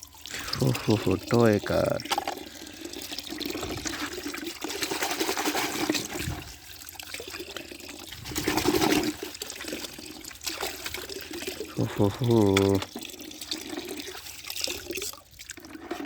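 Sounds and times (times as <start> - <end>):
running water splashing: 0.0 - 16.0.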